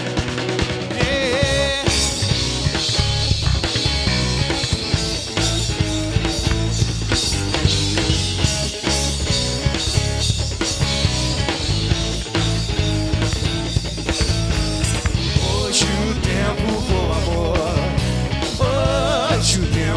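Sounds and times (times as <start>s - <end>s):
drum kit beat: 0.0s - 19.9s
rock band playing: 0.0s - 19.9s.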